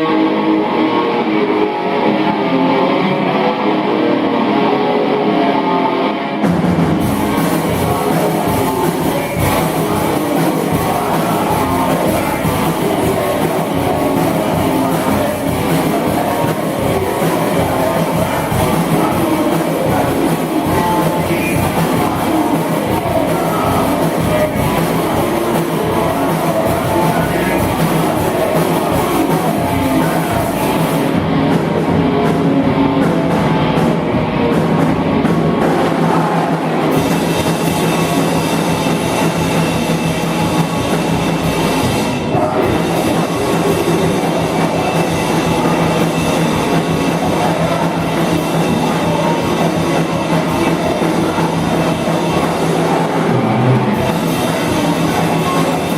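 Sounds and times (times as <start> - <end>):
rock band playing loudly: 0.0 - 55.9.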